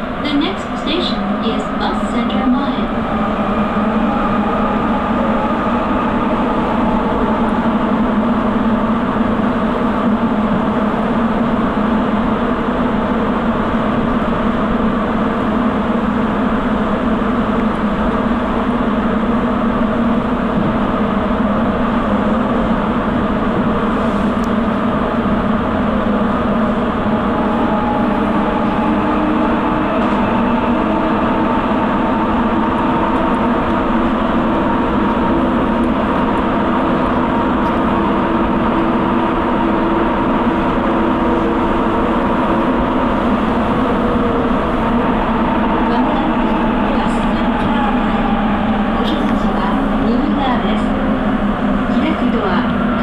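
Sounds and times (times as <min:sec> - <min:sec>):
subway train running in tunnel: 0:00.0 - 0:53.0.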